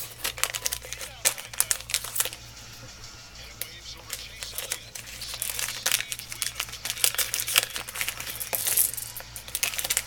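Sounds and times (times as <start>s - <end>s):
candy wrapper crinkling: 0.0s - 2.4s, 3.4s - 10.0s.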